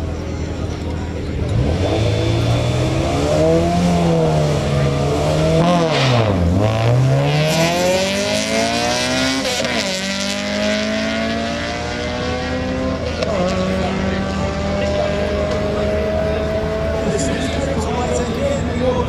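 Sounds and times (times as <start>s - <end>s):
drag car engine accelerating: 0.1s - 19.0s.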